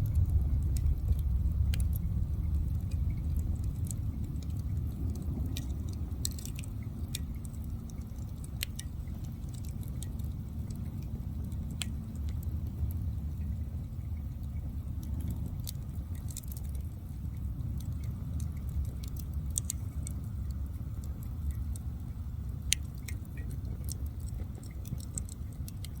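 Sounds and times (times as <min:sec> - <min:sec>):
fire crackles and pops: 0:00.0 - 0:26.0
low rumble of flames: 0:00.0 - 0:26.0.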